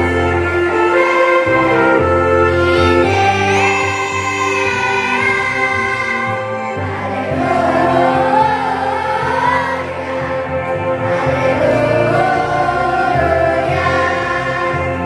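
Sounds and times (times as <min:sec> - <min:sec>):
children's choir singing: 0:00.0 - 0:15.0
held accompaniment chords: 0:00.0 - 0:15.0.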